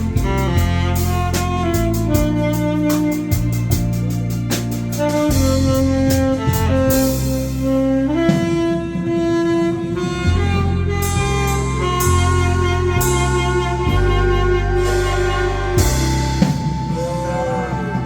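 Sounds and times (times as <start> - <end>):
bass line: 0.0 - 18.0
drum kit with cymbals: 0.0 - 18.0
lead instrument melody: 0.0 - 18.0.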